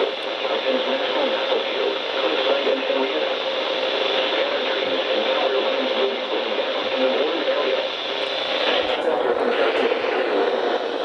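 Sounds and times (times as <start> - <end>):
faint steady hum: 0.0 - 11.0
radio static hiss: 0.0 - 11.0.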